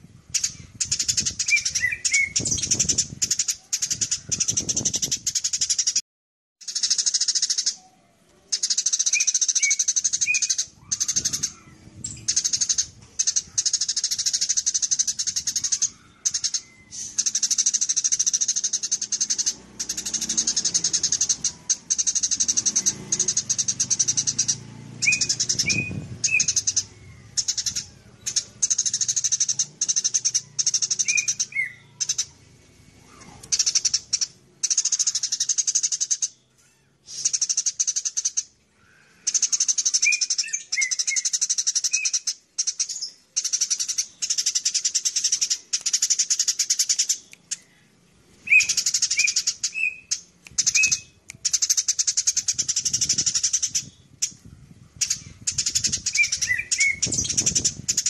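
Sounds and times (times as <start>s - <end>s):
sparrow chirping: 0.1s - 6.0s, 6.6s - 58.0s.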